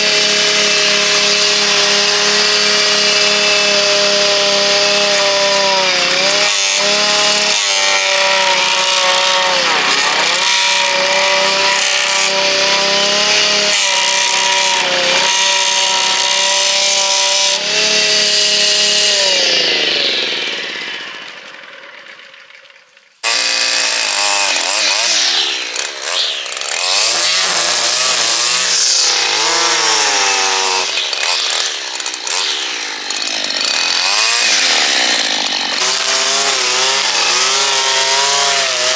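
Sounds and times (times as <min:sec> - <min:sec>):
lawn edger engine running: 0:00.0 - 0:38.9
line trimmer engine revving: 0:00.0 - 0:38.9.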